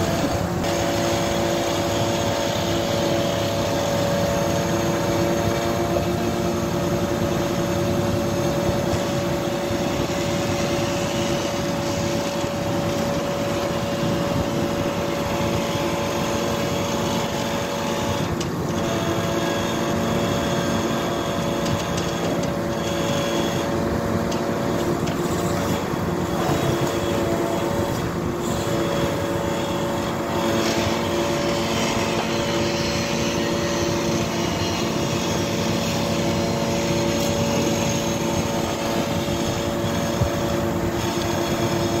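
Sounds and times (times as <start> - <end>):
truck diesel engine running: 0.0 - 42.0.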